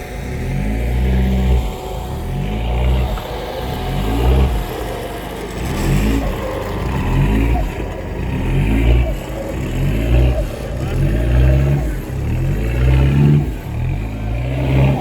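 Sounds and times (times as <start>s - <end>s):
engine revving in surges: 0.0s - 15.0s.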